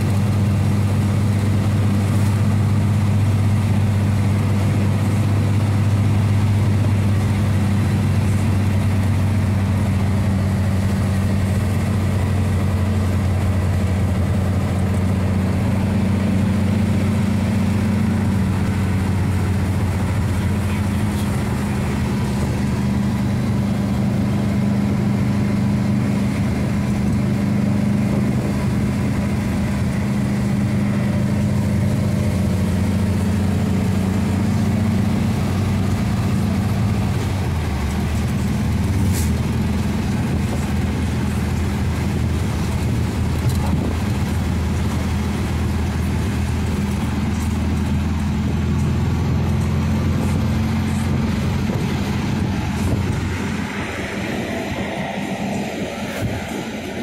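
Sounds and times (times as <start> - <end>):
engine running: 0.0 - 57.0
road noise: 0.0 - 57.0.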